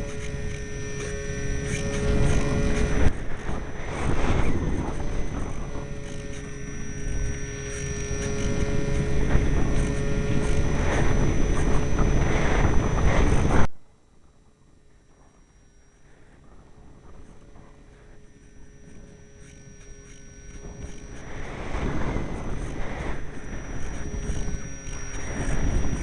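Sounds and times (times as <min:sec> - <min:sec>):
faint steady whine: 0:00.0 - 0:26.0.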